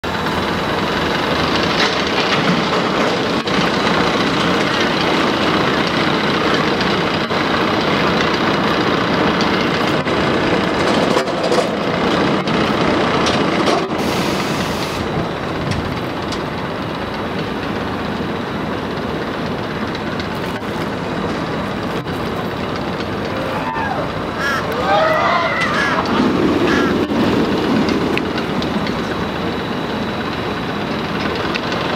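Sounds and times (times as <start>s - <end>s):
roller coaster clattering rumble: 0.0s - 31.9s.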